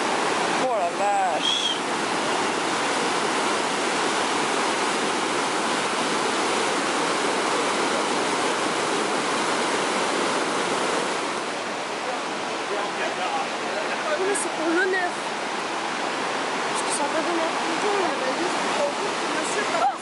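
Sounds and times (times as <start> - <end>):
rapids roaring over rocks: 0.0 - 20.0.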